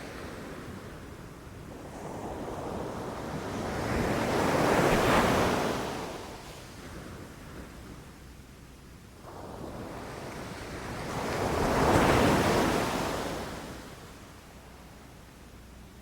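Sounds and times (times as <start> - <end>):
low rumble of surf: 0.0 - 16.0.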